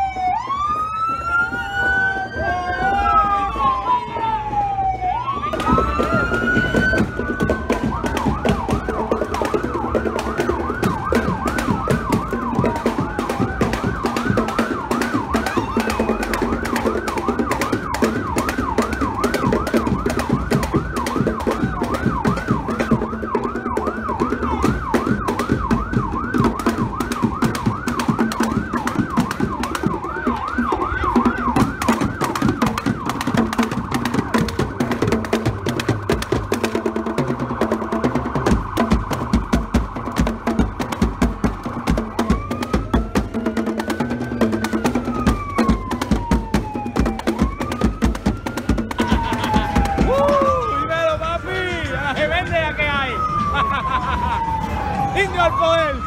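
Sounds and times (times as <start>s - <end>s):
emergency siren wailing and yelping: 0.0s - 56.0s
marching band drums: 0.0s - 56.0s.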